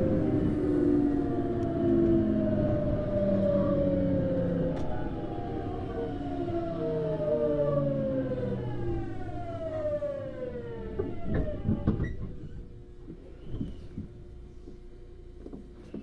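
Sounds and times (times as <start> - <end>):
electric train motor whining: 0.0 - 14.1.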